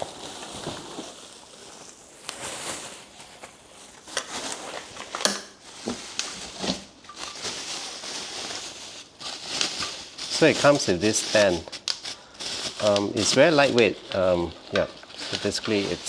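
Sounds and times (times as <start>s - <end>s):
plastic and cardboard rustling: 0.0s - 16.0s.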